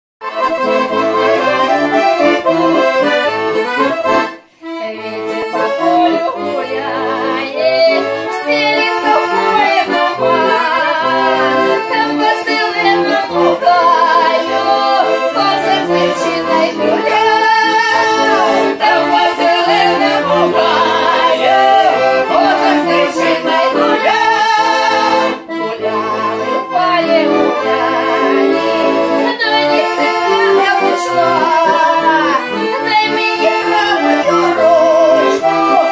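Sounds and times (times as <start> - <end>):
accordion folk melody: 0.2 - 35.9.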